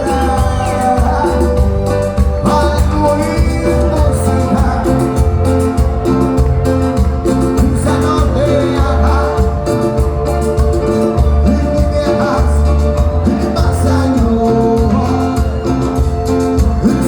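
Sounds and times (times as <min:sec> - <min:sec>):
live band music with singing: 0:00.0 - 0:17.0
repeating bass rhythm: 0:00.0 - 0:17.0.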